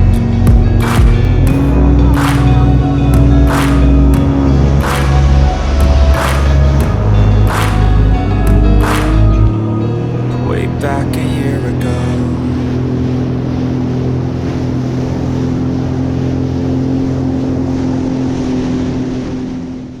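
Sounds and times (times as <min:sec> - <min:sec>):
jet ski engine running: 0:00.0 - 0:20.0
water rushing: 0:00.0 - 0:20.0.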